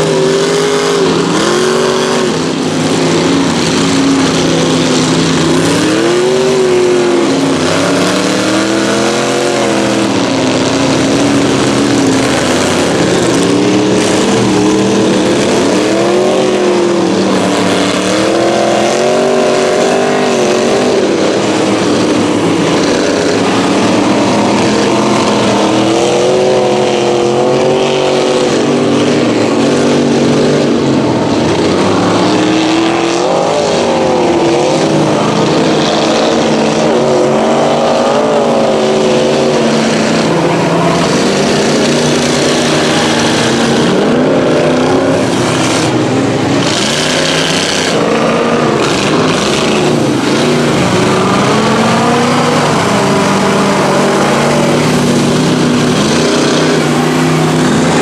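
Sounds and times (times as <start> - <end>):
engines running: 0.0 - 58.0
truck engines revving hard: 0.0 - 58.0.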